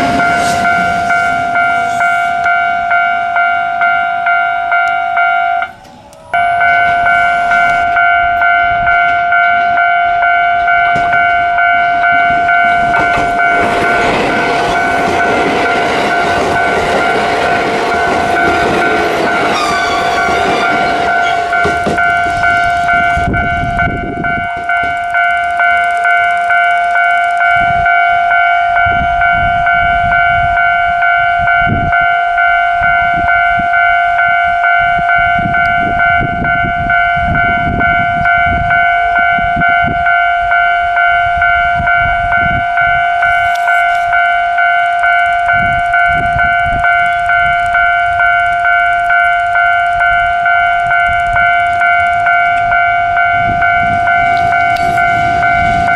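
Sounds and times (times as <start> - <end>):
level crossing bell ringing: 0.0 - 55.9.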